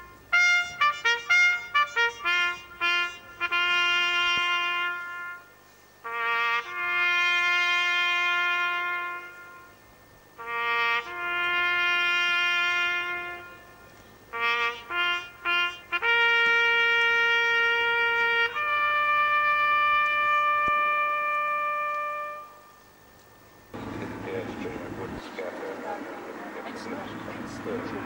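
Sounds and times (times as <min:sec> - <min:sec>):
solemn bugle call: 0:00.0 - 0:22.9.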